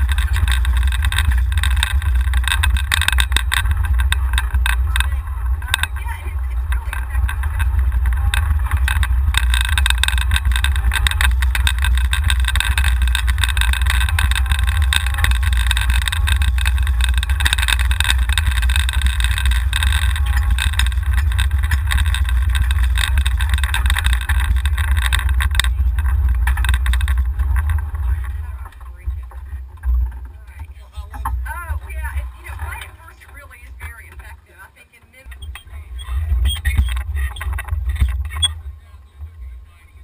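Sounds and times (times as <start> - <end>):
wind rumble on microphone: 0.0 - 34.5, 35.2 - 40.0
golf cart rattling: 0.0 - 40.0
tyre noise on asphalt: 0.0 - 40.0.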